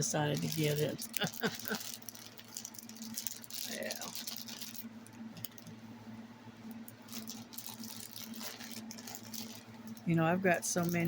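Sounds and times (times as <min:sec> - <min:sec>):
faint rustling of materials: 0:00.0 - 0:05.8, 0:06.7 - 0:11.0
steady low hum: 0:00.0 - 0:11.0.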